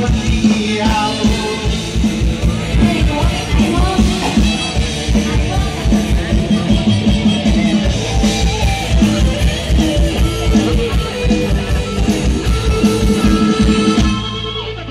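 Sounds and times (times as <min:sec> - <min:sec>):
fast steady drum beat: 0:00.0 - 0:14.6.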